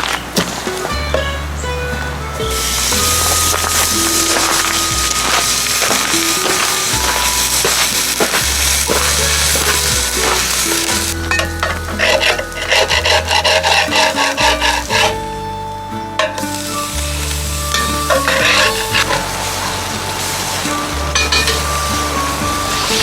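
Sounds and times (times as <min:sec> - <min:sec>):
background music with bass line: 0:00.0 - 0:23.0
food sizzling in a pan: 0:02.5 - 0:15.2, 0:16.4 - 0:23.0
scraping strokes: 0:02.5 - 0:15.4, 0:16.2 - 0:23.0.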